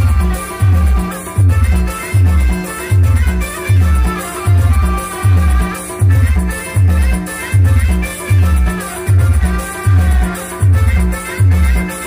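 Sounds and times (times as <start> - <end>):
band music with heavy bass beat: 0.0 - 12.0.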